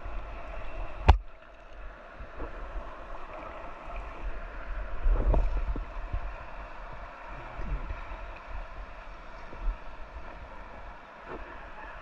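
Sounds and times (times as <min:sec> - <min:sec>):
wind rumbling on microphone: 0:00.0 - 0:01.3, 0:02.2 - 0:12.0
sea water lapping: 0:00.0 - 0:12.0.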